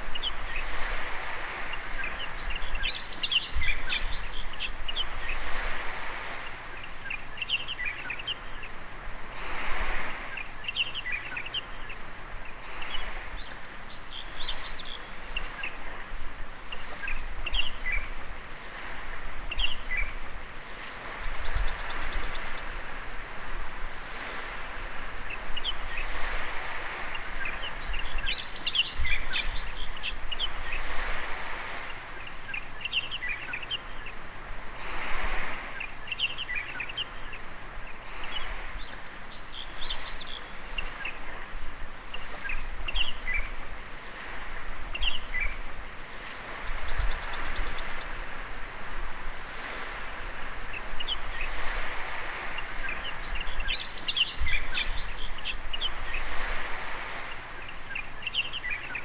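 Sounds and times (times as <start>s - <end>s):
small birds chirping: 0.0s - 8.9s, 9.9s - 23.4s, 24.0s - 34.6s, 35.2s - 59.0s
soft surf: 0.0s - 59.0s.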